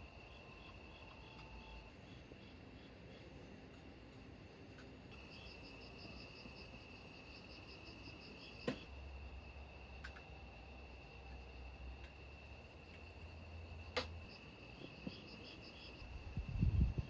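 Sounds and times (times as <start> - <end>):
fast pulsing insect chirp: 0.0 - 3.3, 5.2 - 17.0
insects trilling: 0.0 - 3.5, 5.1 - 17.0.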